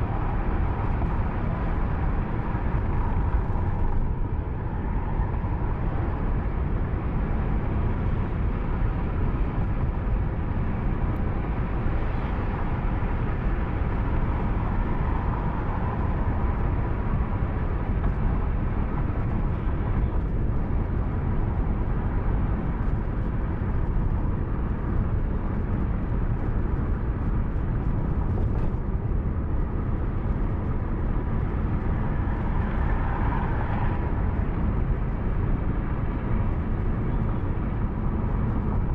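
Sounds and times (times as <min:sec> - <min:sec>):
car road and engine noise: 0:00.0 - 0:38.9
faint steady whine: 0:00.0 - 0:38.9.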